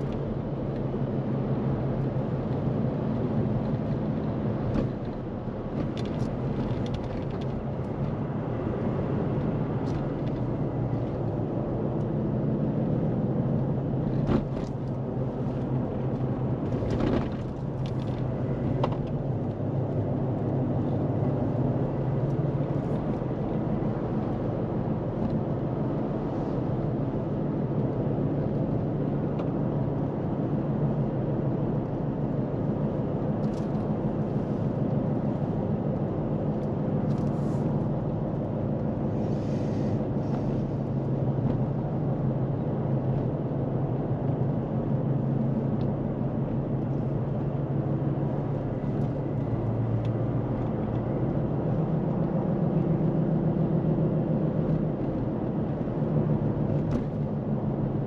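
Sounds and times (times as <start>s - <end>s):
road noise: 0.0s - 58.0s
vehicle engine: 0.0s - 58.0s.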